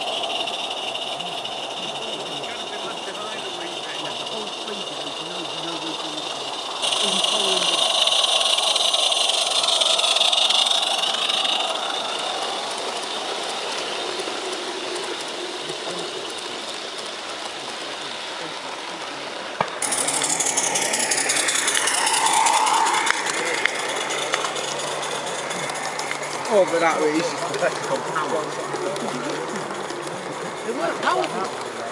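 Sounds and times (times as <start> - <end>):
carriages clattering: 0.0 - 31.9
steam locomotive hissing: 0.0 - 31.9
train wheels clicking on track: 0.0 - 31.9.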